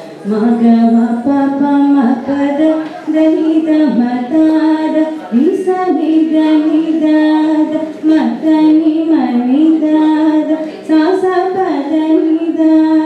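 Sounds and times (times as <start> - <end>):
woman singing: 0.2 - 13.0.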